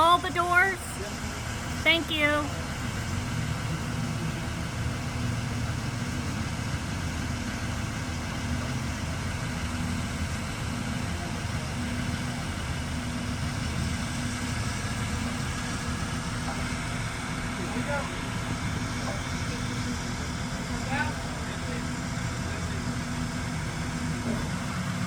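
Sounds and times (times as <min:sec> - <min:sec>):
large engine idling: 0:00.0 - 0:25.0.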